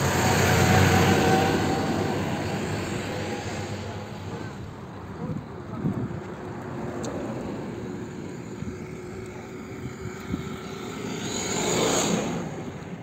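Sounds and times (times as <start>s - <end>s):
vehicle passing close: 0.0s - 4.7s, 6.6s - 13.0s
road traffic hum: 0.0s - 13.0s.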